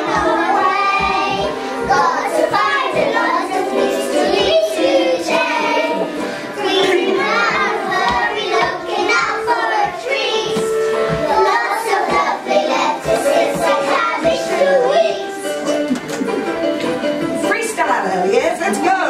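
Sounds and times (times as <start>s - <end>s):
children singing: 0.0s - 16.6s.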